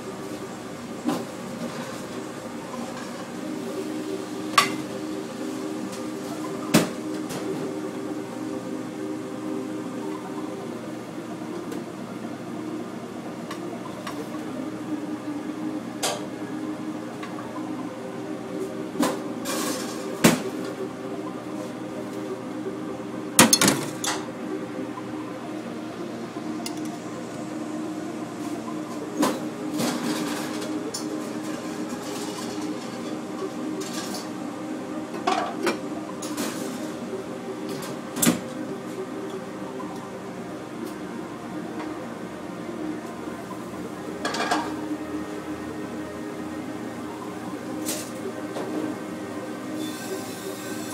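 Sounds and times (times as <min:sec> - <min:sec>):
machinery hum: 0:00.0 - 0:50.9.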